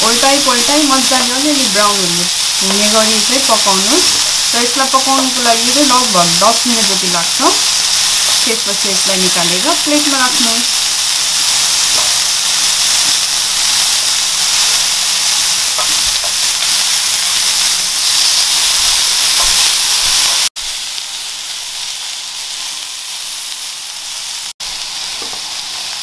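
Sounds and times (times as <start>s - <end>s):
kebabs sizzling in oil: 0.0s - 26.0s.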